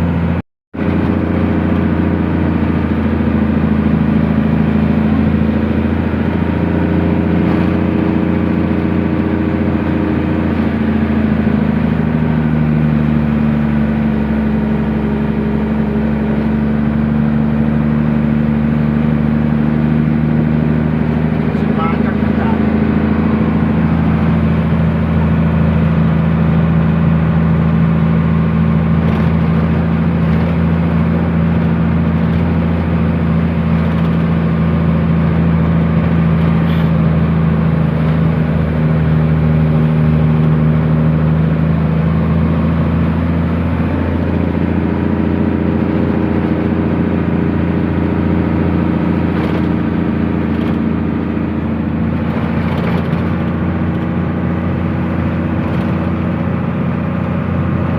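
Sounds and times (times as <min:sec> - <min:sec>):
truck engine running: 0:00.0 - 0:57.9.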